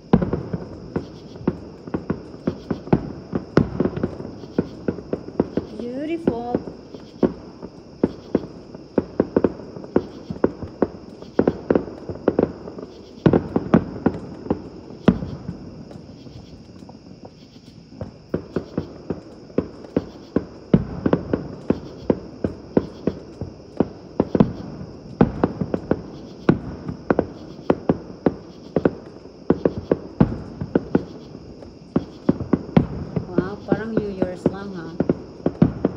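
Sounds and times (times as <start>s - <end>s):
fireworks bangs: 0.0s - 35.9s
insects chirring: 0.0s - 35.9s.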